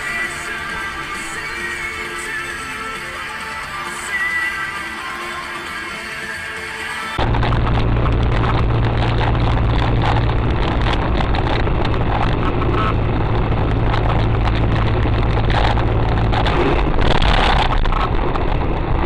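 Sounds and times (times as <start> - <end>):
low engine drone: 0.0 - 19.0
tyre and road noise: 0.0 - 19.0.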